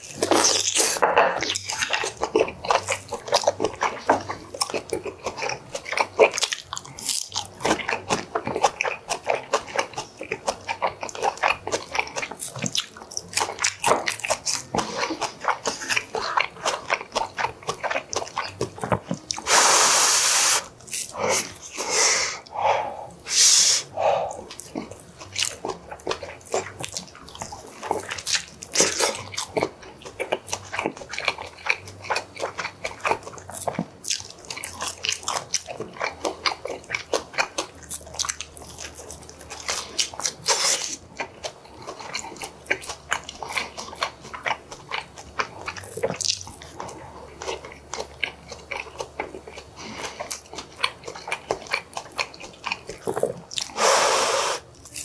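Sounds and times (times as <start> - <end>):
close chewing with wet clicks: 0.0 - 19.5, 24.3 - 53.8, 54.6 - 55.0.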